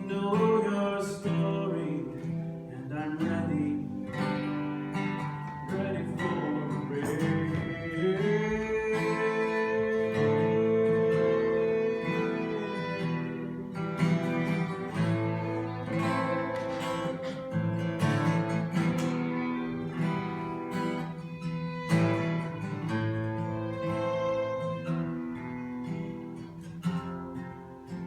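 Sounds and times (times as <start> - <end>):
acoustic guitar strummed and plucked: 0.0 - 28.0.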